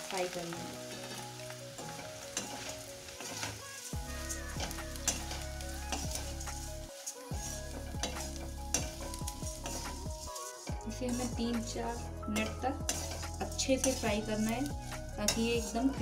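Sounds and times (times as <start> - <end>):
food sizzling in oil: 0.0 - 16.0
metal spatula scraping pan: 0.8 - 16.0.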